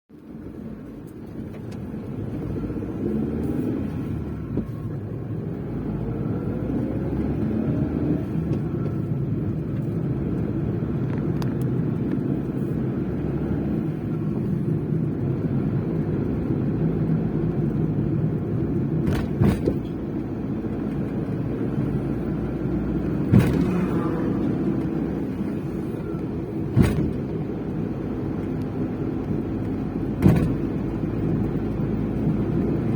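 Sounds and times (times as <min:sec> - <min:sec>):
van engine and road rumble: 0:00.1 - 0:32.9.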